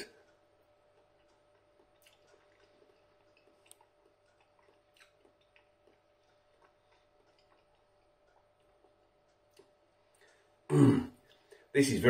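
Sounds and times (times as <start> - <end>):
chewing noodles: 0.2 - 10.5.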